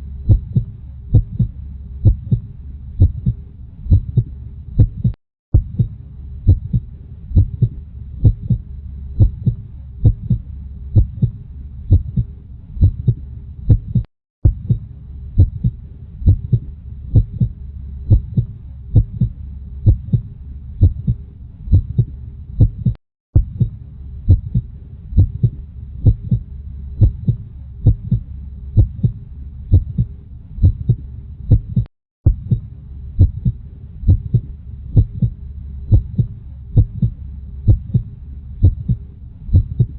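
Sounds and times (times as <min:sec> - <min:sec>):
low steady rumble: 0:00.0 - 0:39.9
human heartbeat: 0:00.2 - 0:39.9.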